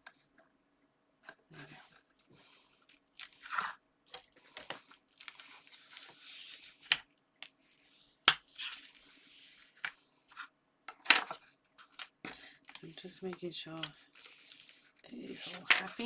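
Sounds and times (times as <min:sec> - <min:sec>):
card stock rustling and crinkling: 0:01.5 - 0:16.0.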